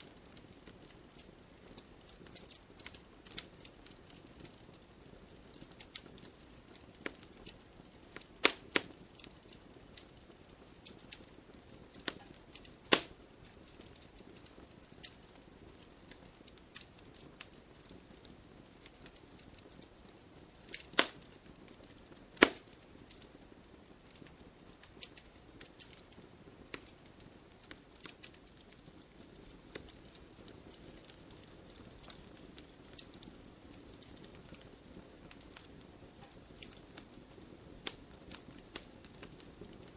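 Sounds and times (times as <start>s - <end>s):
campfire crackling: 0.0s - 39.9s
soft low hiss: 0.0s - 39.9s.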